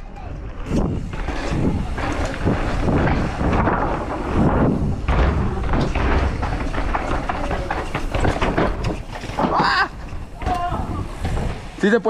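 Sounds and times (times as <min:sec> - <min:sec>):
wind rumbling on microphone: 0:00.0 - 0:11.8
bike tyres thudding on ground: 0:00.5 - 0:12.0.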